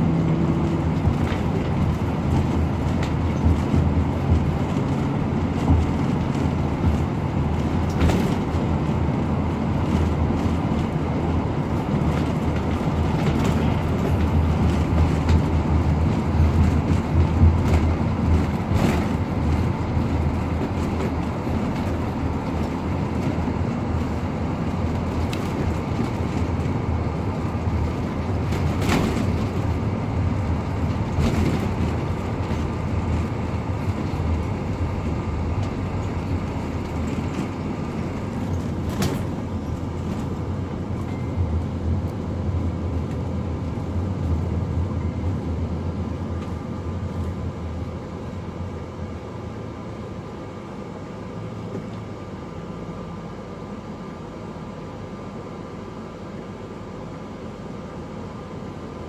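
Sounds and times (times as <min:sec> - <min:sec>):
bus body rattling over bumps: 0:00.0 - 0:59.0
bus engine and road noise: 0:00.0 - 0:59.0.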